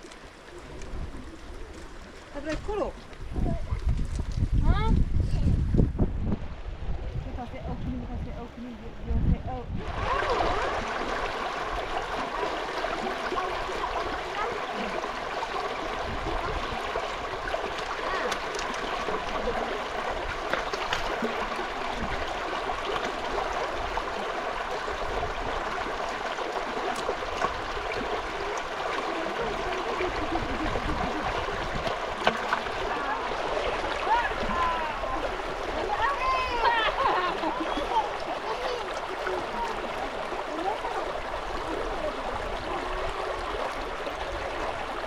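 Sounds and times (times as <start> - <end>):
running water rushing: 0.0 - 45.0.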